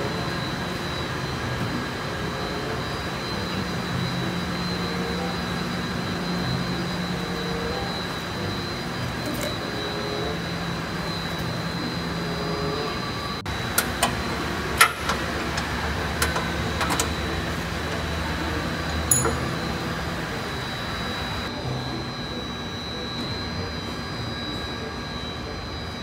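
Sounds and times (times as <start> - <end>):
faint high whine: 0.0 - 26.0
machine hum: 0.0 - 26.0.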